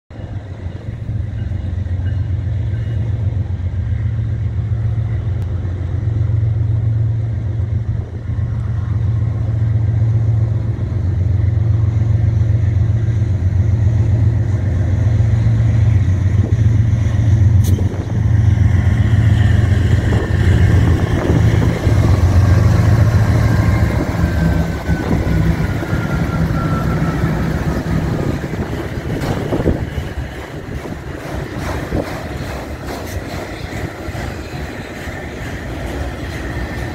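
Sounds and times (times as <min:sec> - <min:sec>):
diesel locomotive rumble: 0:00.1 - 0:36.9
rolling train noise: 0:00.1 - 0:36.9.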